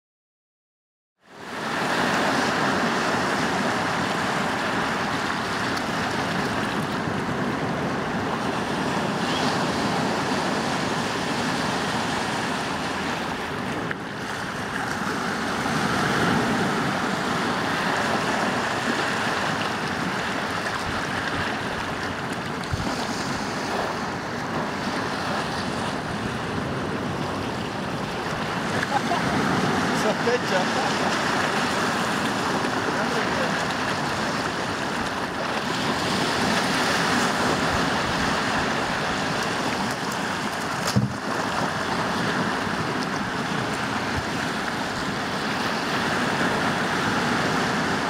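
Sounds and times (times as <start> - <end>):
ocean surf breaking: 1.3 - 48.0.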